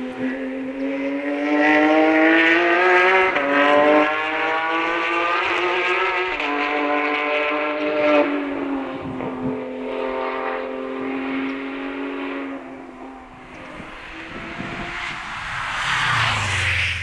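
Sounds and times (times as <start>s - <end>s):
distant rally car engine: 0.0s - 17.0s.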